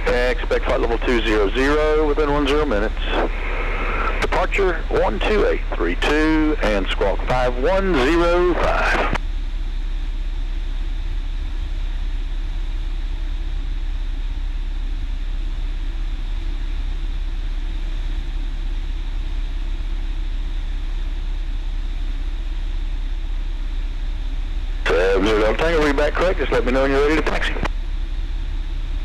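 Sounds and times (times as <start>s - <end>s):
light aircraft engine drone: 0.0s - 29.0s.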